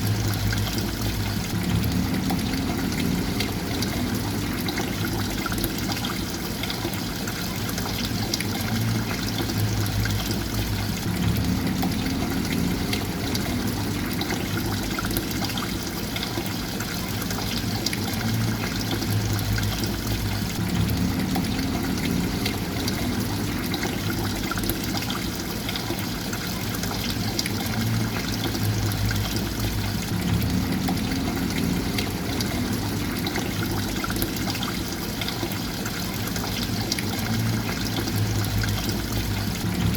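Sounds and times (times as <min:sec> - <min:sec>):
flowing trickling water: 0:00.0 - 0:39.9.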